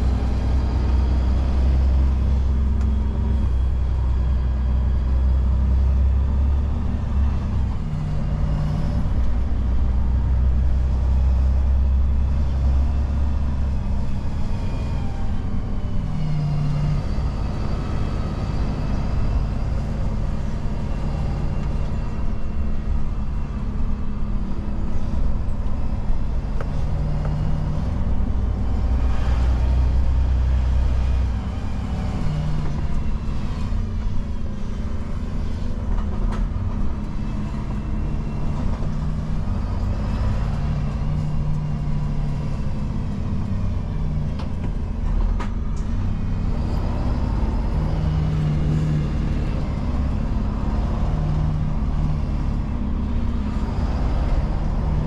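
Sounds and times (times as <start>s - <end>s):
truck diesel engine from inside cab: 0.0s - 55.0s.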